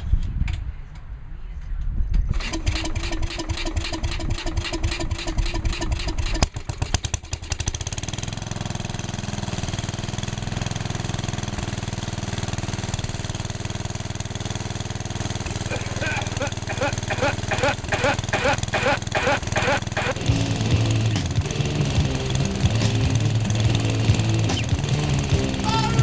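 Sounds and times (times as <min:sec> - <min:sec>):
tractor engine cranking and running: 0:02.3 - 0:26.0.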